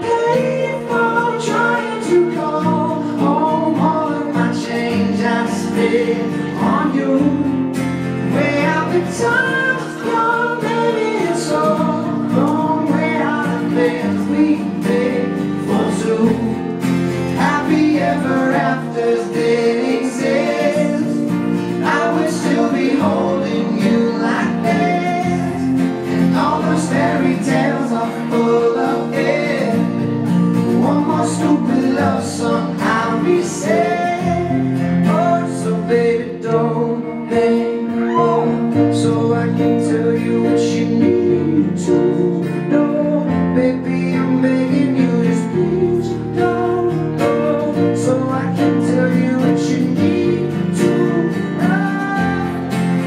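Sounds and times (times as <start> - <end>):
acoustic guitars strumming: 0.0 - 53.0
picked guitar lead line: 0.0 - 53.0.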